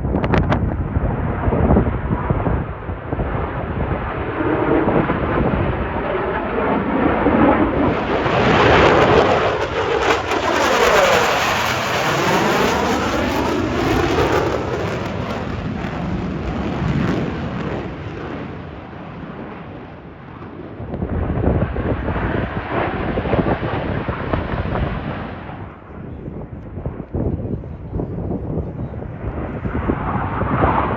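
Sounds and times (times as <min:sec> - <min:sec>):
crackling rumbling jet roar: 0:00.0 - 0:30.9
jets passing overhead: 0:00.1 - 0:27.1, 0:28.8 - 0:30.9.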